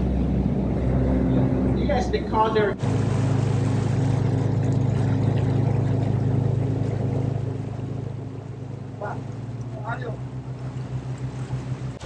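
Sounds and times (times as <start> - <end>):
boat diesel engine droning: 0.0 - 12.0
water rushing along hull: 0.0 - 12.0.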